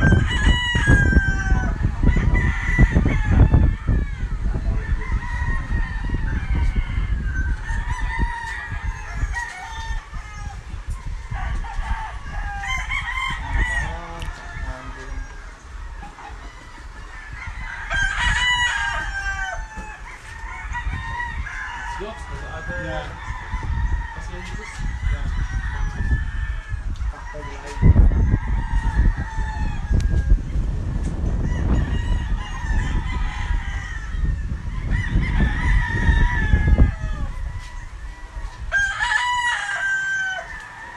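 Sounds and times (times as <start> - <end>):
roosters crowing: 0.0 - 40.9.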